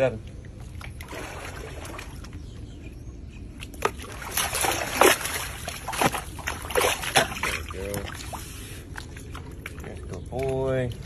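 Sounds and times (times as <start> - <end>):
alligator thrashing water splashes: 0.7 - 2.4, 3.6 - 11.0.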